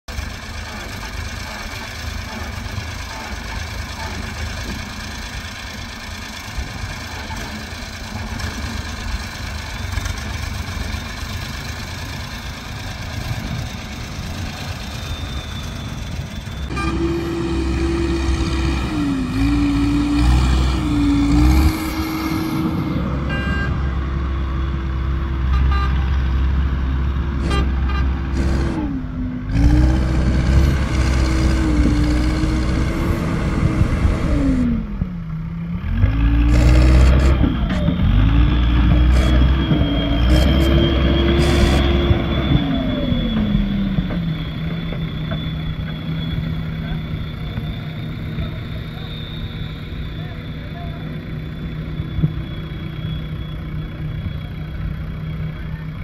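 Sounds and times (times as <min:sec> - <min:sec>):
backhoe loader diesel engine: 0:00.0 - 0:56.0
tractor engine running: 0:00.0 - 0:56.0.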